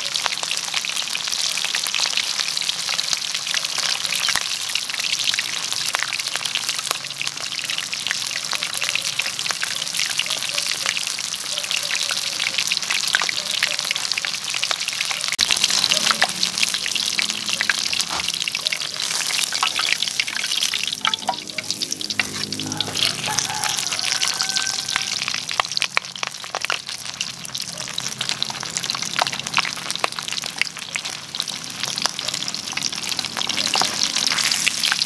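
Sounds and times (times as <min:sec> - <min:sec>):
oil sizzling and crackling: 0:00.0 - 0:35.0.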